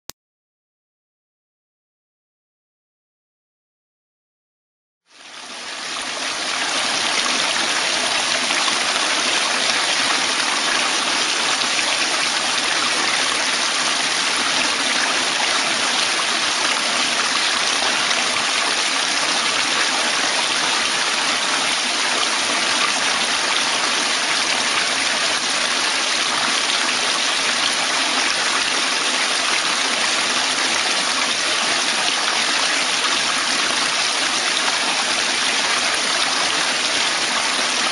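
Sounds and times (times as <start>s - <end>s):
rushing water: 5.2s - 37.9s.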